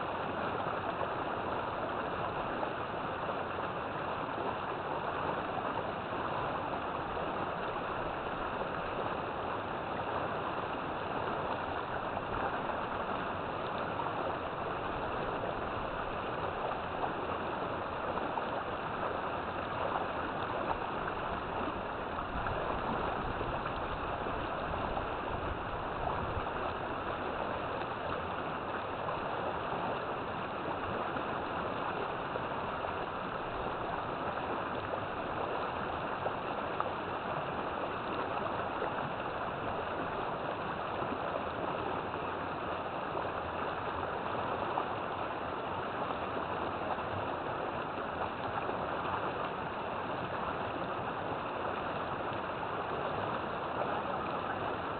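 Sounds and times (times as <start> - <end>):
river water flowing over rocks: 0.0 - 54.9.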